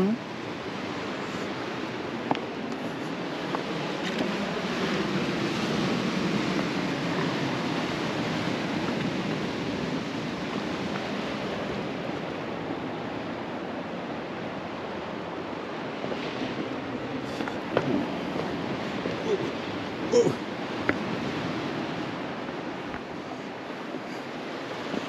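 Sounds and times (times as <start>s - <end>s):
ocean surf on rocks: 0.0s - 25.0s
wind on microphone: 0.0s - 25.0s.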